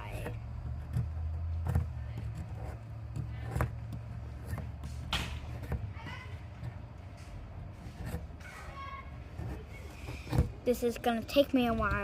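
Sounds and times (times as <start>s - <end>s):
tool scraping plaster: 0.0s - 11.1s
low steady hum: 0.0s - 12.0s.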